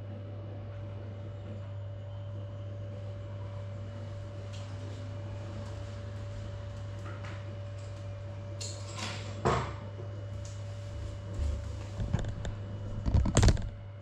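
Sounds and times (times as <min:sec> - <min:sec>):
low electronic hum: 0:00.0 - 0:14.0.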